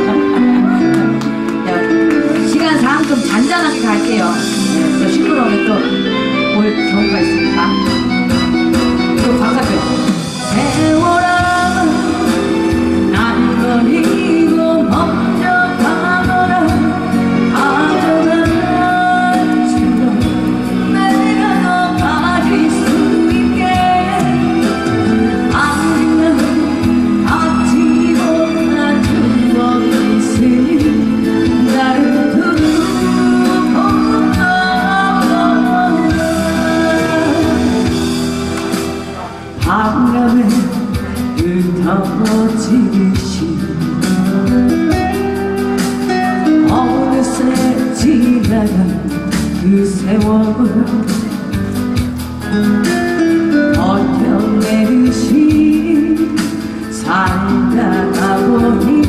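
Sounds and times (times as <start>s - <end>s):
person singing: 0.0s - 8.0s, 9.2s - 51.8s, 53.6s - 59.0s
backing music: 0.0s - 59.0s.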